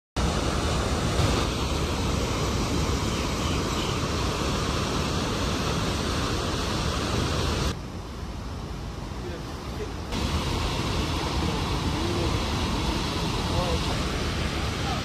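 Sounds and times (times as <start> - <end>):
water rushing through dam gate: 0.2 - 7.8, 8.8 - 15.0.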